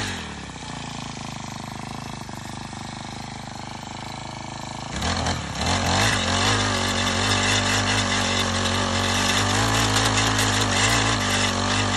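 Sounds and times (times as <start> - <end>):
tiller engine revving: 0.0 - 11.9
tines churning soil: 0.0 - 11.9.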